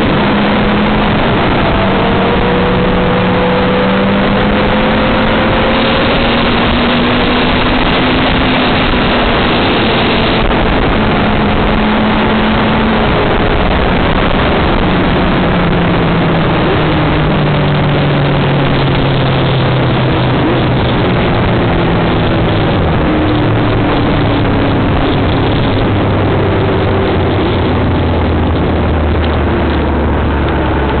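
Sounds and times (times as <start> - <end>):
motorcycle engine running: 0.0 - 31.0
wind rush on microphone: 0.0 - 31.0.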